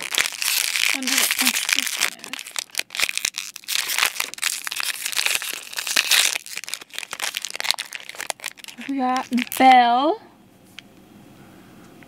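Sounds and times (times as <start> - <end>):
plastic wrapper crackling: 0.0 - 9.8.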